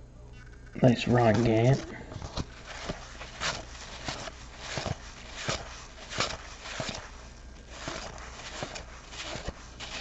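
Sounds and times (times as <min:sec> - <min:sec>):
cardboard cards sliding rustle: 0:01.1 - 0:10.0.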